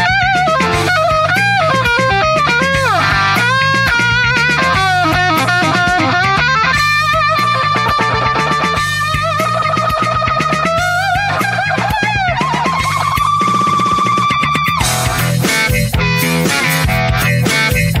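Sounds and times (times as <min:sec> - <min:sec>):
bass and drums: 0:00.0 - 0:18.0
electric guitar solo: 0:00.0 - 0:18.0.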